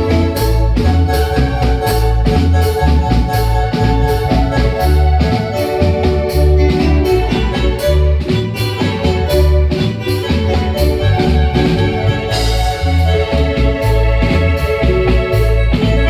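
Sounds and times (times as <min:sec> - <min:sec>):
bass and drum beat: 0:00.0 - 0:16.0
marimba band playing dance music: 0:00.0 - 0:16.0.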